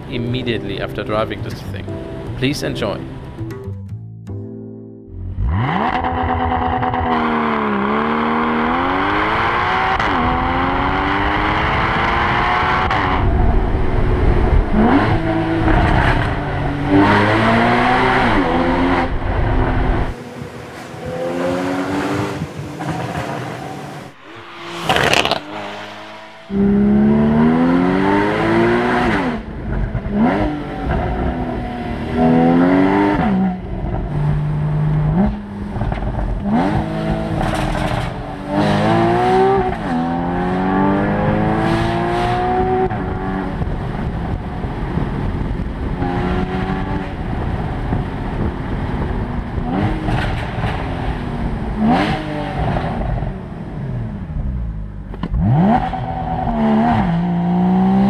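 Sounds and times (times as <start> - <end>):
sports car engine accelerating: 5.2 - 58.0.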